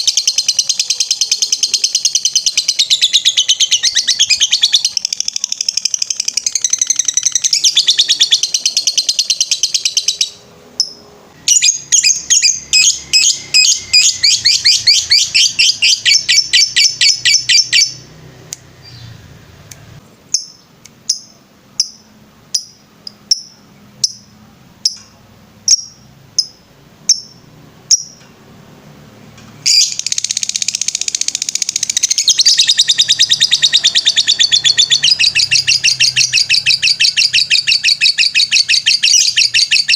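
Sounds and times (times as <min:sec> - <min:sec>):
lovebird chirping song: 0:00.0 - 0:28.3, 0:29.6 - 0:39.9.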